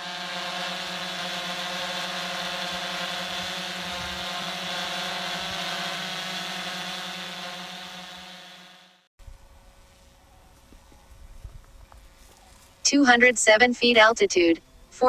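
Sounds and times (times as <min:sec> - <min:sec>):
drone propeller hum and whine: 0:00.0 - 0:12.9.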